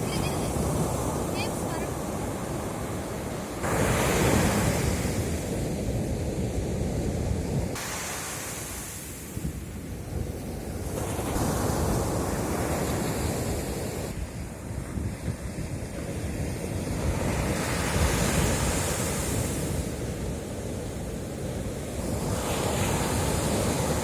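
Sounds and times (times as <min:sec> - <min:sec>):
sea waves breaking on beach: 0:00.0 - 0:24.0.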